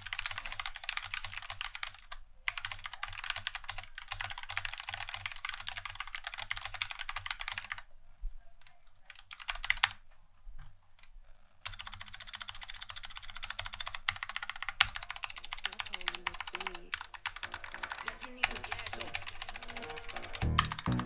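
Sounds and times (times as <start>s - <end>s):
typing on mechanical keyboard: 0.0s - 7.9s, 8.6s - 10.0s, 11.6s - 21.0s.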